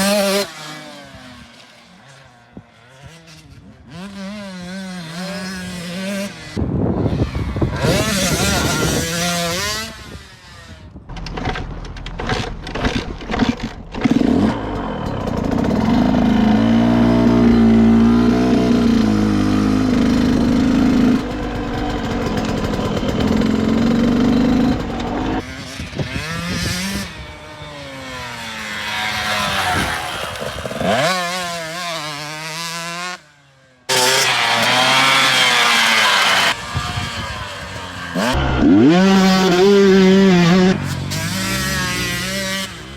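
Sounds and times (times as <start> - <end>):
dirt bike engines revving: 0.0 - 42.9.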